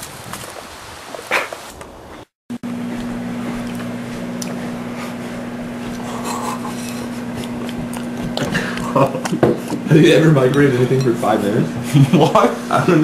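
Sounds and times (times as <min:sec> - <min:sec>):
microwave oven humming: 0:02.5 - 0:13.0.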